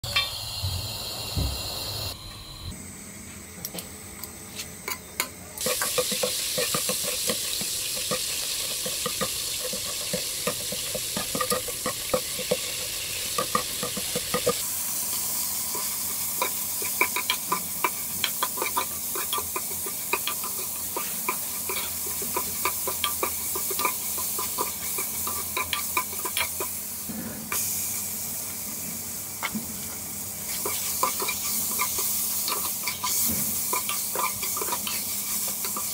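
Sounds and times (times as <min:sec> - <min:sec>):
hot oil sizzling: 0:00.0 - 0:02.7, 0:05.6 - 0:35.9.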